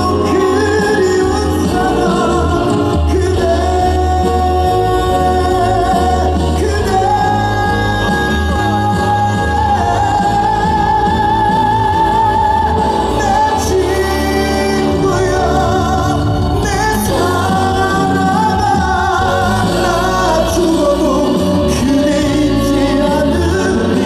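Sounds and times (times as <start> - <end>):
backing band playing: 0.0 - 24.0.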